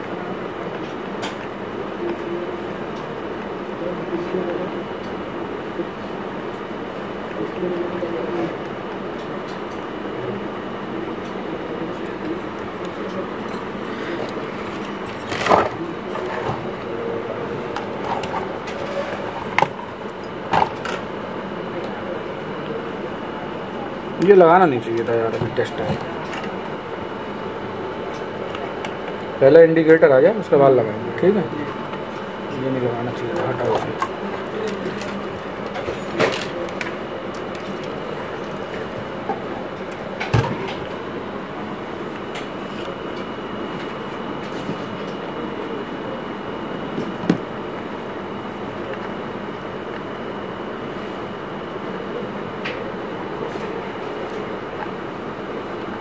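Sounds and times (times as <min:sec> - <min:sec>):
steady background noise: 0:00.0 - 0:56.0.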